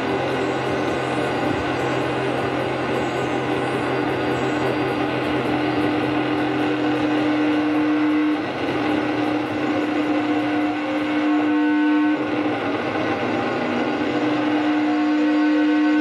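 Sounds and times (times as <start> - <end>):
steady held drone tone: 0.0 - 16.0.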